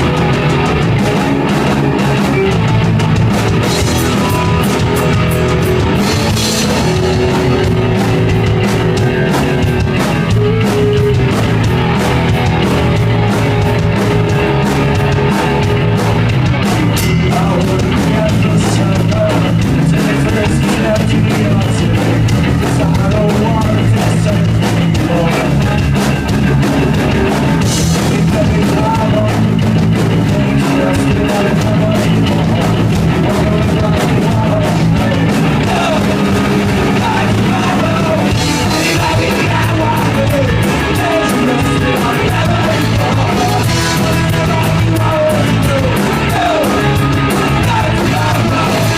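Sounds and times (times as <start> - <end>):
punk rock band playing live: 0.0 - 48.9.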